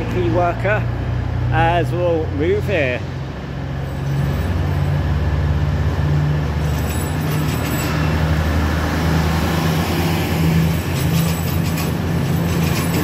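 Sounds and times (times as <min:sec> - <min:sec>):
diesel train engine throbbing: 0:00.0 - 0:13.0.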